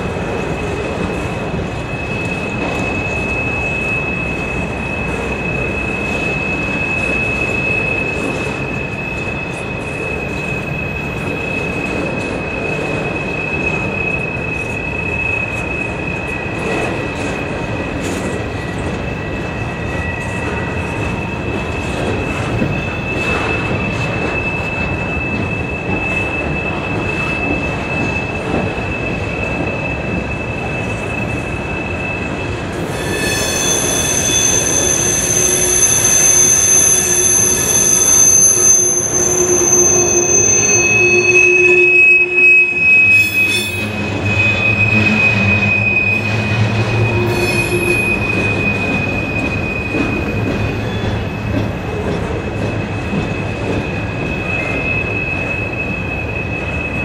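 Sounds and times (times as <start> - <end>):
rumble of train cars: 0.0 - 57.0
train wheels squealing on rail: 0.0 - 57.0.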